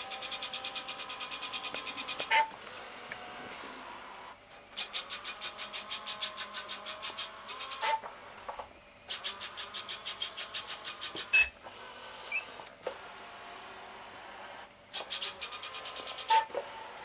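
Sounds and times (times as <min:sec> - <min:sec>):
robot gear motors whirring: 0:00.0 - 0:17.0.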